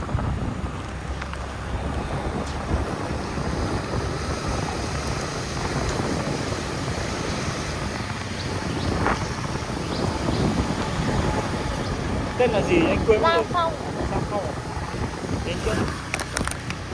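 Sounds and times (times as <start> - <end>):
motorbike engine rumble: 0.0 - 16.9
road noise: 0.0 - 16.9
wind buffeting microphone: 0.0 - 16.9.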